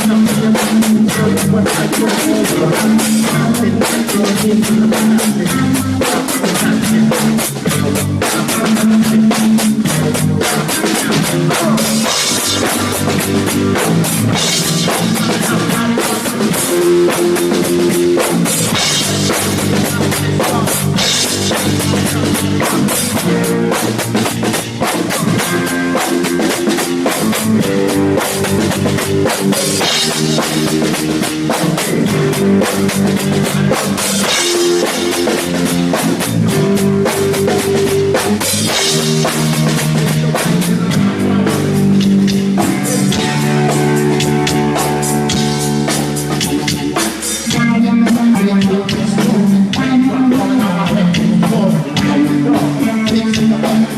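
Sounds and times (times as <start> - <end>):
bass guitar: 0.0 - 53.9
drum kit with cymbals: 0.0 - 53.9
electric guitar: 0.0 - 53.9.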